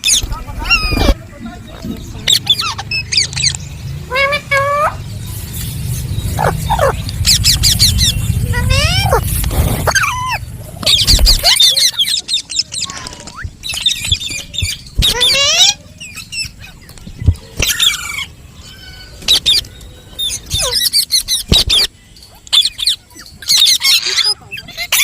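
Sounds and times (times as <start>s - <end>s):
parrot squawking and chirping: 0.0s - 1.2s, 2.2s - 16.9s, 17.5s - 25.0s.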